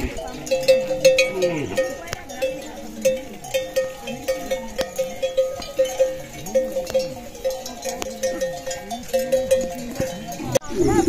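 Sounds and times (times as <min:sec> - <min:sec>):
livestock bells clanking: 0:00.0 - 0:11.0.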